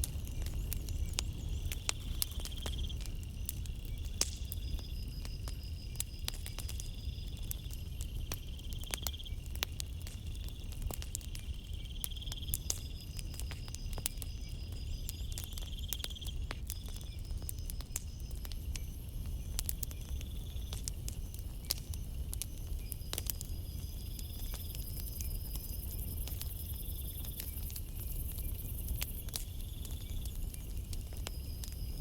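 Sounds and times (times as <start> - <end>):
campfire crackling and popping: 0.0 - 32.0
insects trilling: 0.0 - 32.0.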